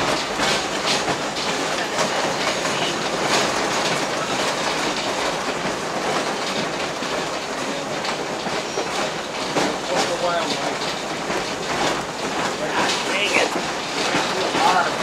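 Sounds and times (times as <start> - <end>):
steam train rolling rumble: 0.0 - 15.0
train clicks and knocks: 0.0 - 15.0.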